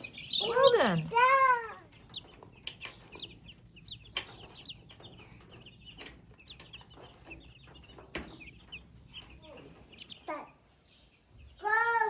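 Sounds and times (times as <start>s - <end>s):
chickens clucking: 0.0s - 12.0s
high bird chirps: 0.0s - 12.0s.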